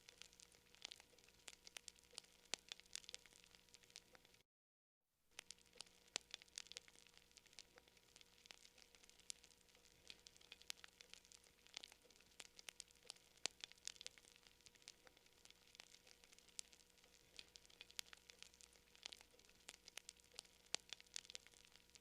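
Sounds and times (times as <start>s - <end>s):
faint wood fire crackling: 0.0s - 4.4s, 5.3s - 22.0s.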